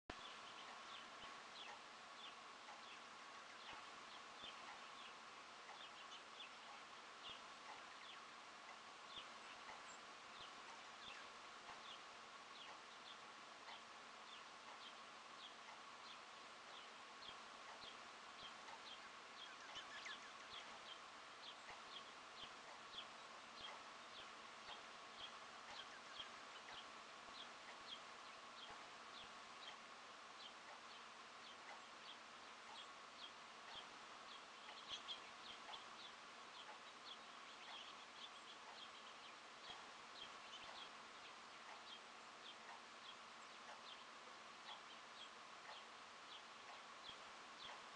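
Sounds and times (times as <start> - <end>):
faint hiss: 0.1 - 47.9
songbirds chirping faintly: 0.1 - 47.9.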